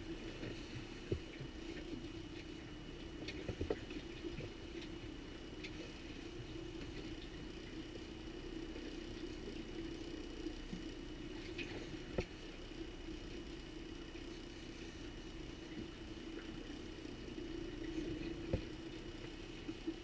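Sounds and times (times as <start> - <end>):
outboard motor humming: 0.0 - 20.0
water sloshing against hull: 0.0 - 20.0.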